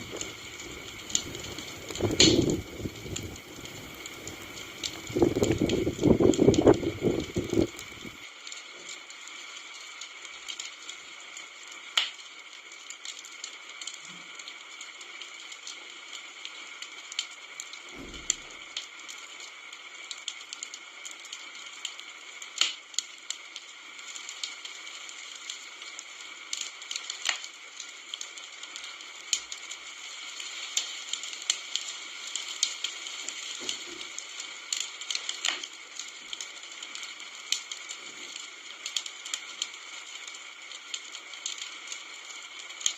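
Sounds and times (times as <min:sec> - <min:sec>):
campfire flame hiss: 0:00.0 - 0:42.9
fire crackles and pops: 0:00.0 - 0:42.9.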